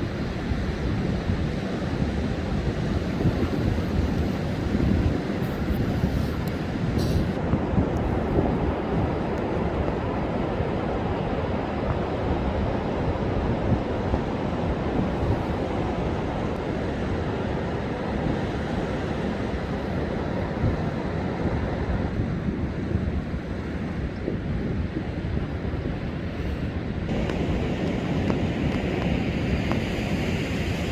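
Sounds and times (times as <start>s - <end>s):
heavy surf rushing: 0.0s - 30.9s
wind buffeting microphone: 0.0s - 30.9s.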